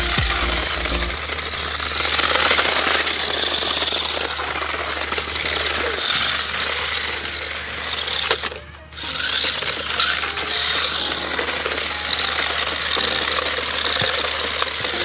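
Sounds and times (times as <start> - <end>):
toy motorcycle motors buzzing: 0.0 - 15.0
plastic wheels rattling on concrete: 0.1 - 15.0.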